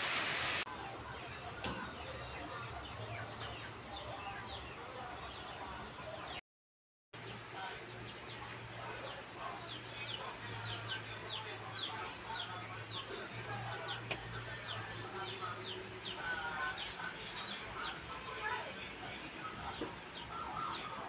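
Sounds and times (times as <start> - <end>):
chicks peeping: 0.8 - 6.4, 8.0 - 18.6, 19.4 - 21.0.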